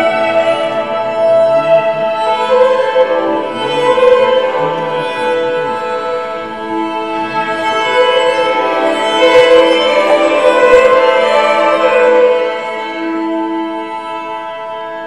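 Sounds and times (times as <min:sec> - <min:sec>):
sustained violin and cello chords: 0:00.0 - 0:15.0.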